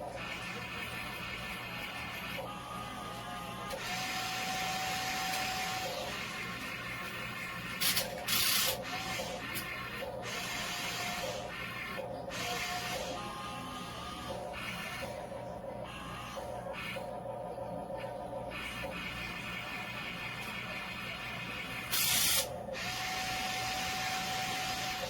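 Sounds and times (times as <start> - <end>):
toy motors whirring: 0.1 - 17.1, 18.5 - 25.0.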